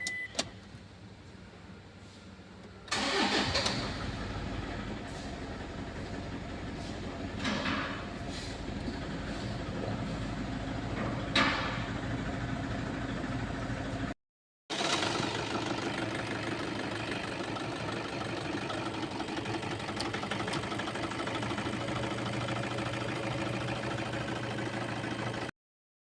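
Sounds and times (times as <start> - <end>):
engine idling roughly with misfire: 2.9 - 25.5.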